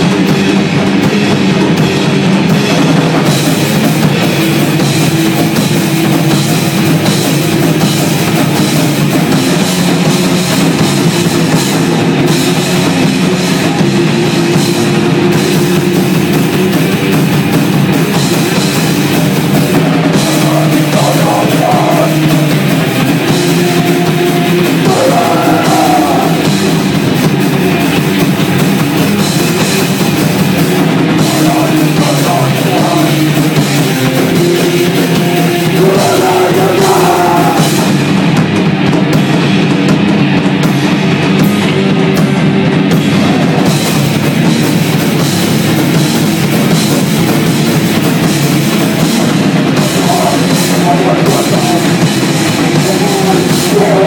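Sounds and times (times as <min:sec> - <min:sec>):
distorted electric guitars: 0:00.0 - 0:54.0
pounding drum kit: 0:00.0 - 0:54.0
punk band playing loud: 0:00.0 - 0:54.0.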